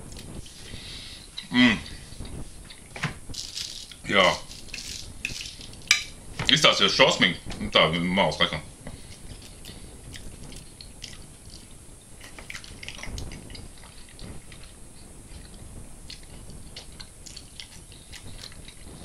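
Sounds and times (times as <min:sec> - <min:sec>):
man chewing food: 0:00.0 - 0:06.5, 0:08.7 - 0:19.0.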